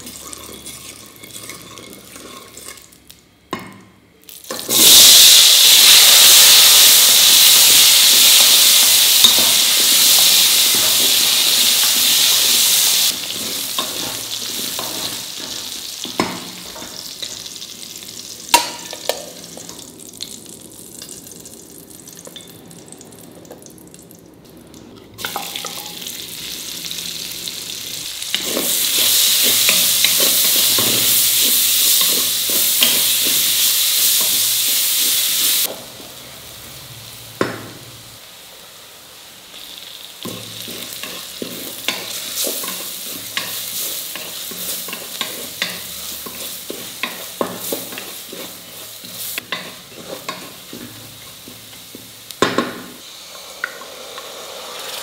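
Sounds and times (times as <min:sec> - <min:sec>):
food sizzling in hot oil: 0:00.0 - 0:03.1, 0:04.4 - 0:24.0, 0:25.2 - 0:55.0.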